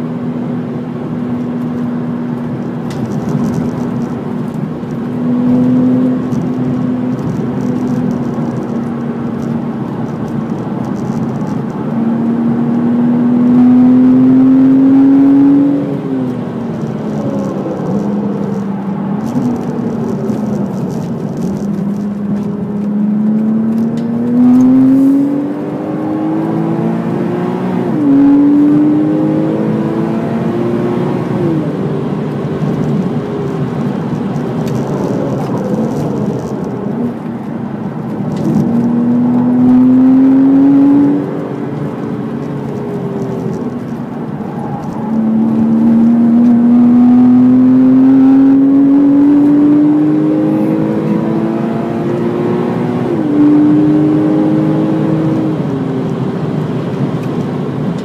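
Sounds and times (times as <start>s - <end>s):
tyre and road noise: 0.0s - 58.0s
car engine revving: 0.2s - 58.0s.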